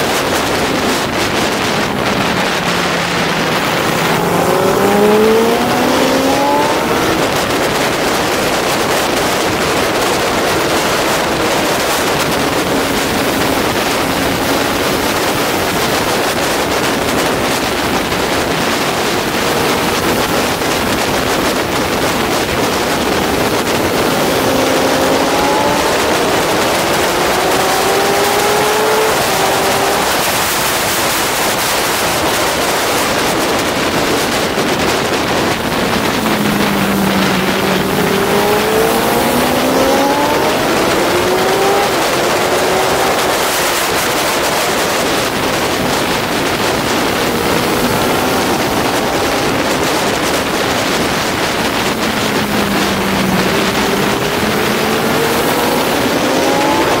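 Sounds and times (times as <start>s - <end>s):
motorcycle engine revving through gears: 0.0s - 57.0s
wind rushing over microphone: 0.0s - 57.0s.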